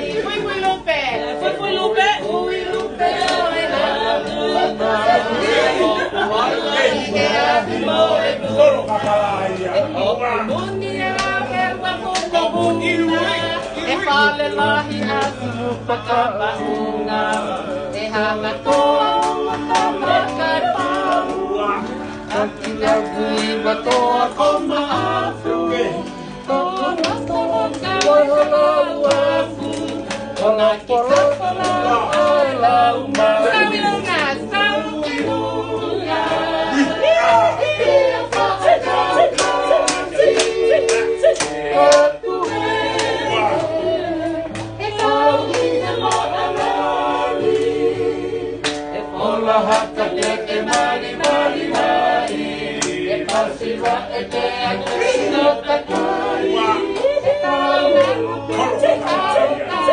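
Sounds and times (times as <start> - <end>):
people singing together: 0.0 - 59.9
strummed acoustic guitar: 0.0 - 59.9.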